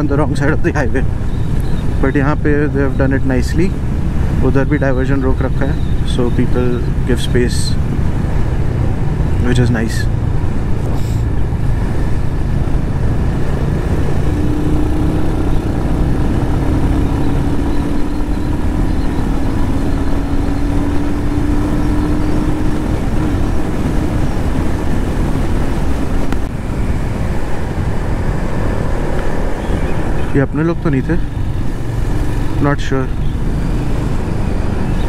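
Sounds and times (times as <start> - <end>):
wind rush over microphone: 0.0 - 35.0.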